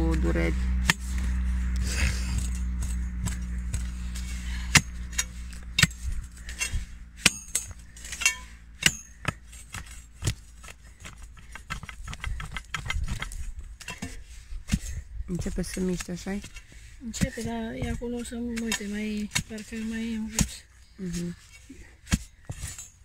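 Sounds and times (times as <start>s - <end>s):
low rumble: 0.0s - 18.5s
metal tool striking hard soil: 2.0s - 20.6s.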